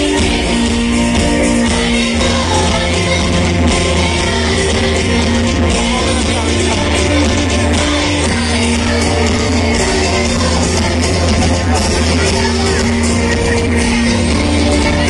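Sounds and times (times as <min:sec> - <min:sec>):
song with singing over music: 0:00.0 - 0:15.0
strong steady bass: 0:00.0 - 0:15.0.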